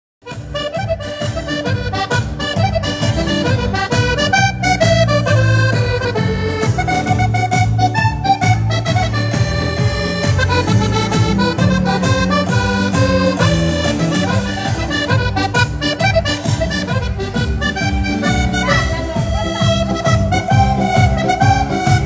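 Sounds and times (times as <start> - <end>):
button accordion dance tune: 0.2 - 22.0.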